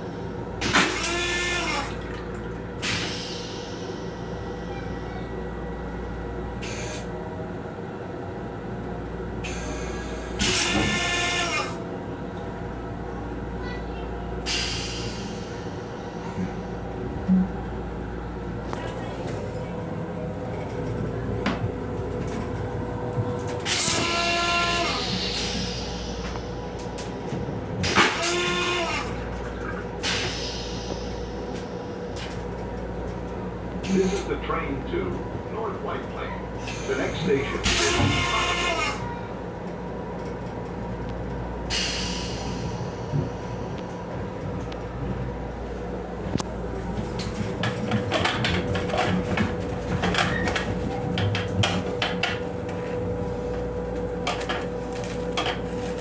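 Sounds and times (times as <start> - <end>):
train hum: 0.0 - 56.0.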